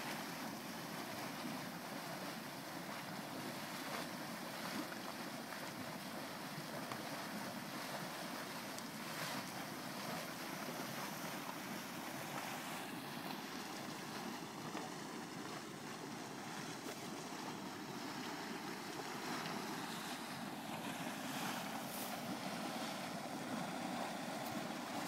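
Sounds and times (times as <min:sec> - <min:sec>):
steaming mud pot rushing: 0:00.0 - 0:25.0.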